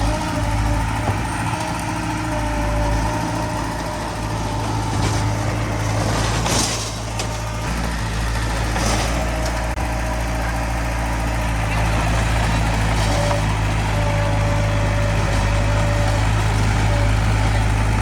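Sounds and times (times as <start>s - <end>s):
heavy machinery diesel engine: 0.0s - 18.0s.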